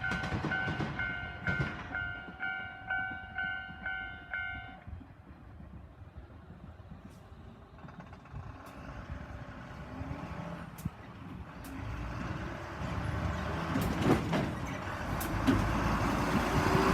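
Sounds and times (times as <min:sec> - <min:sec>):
diesel train approaching: 0:00.0 - 0:16.9.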